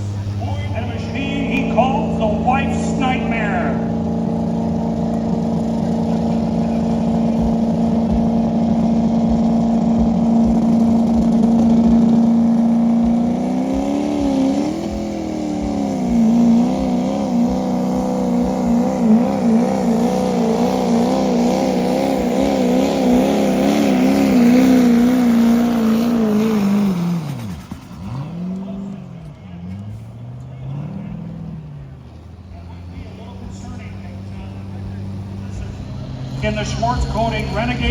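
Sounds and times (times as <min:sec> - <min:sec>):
diesel truck engine at high revs: 0:00.0 - 0:37.9.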